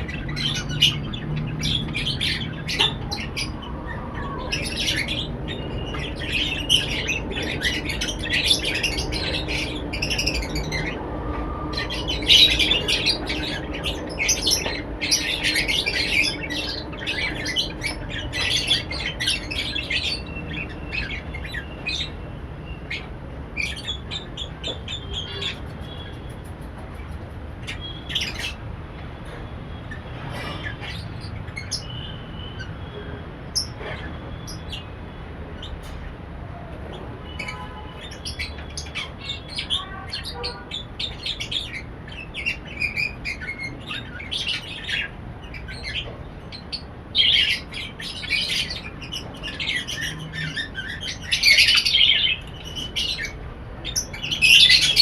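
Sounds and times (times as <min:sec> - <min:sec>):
lovebirds chattering and squawking: 0:00.0 - 0:55.0.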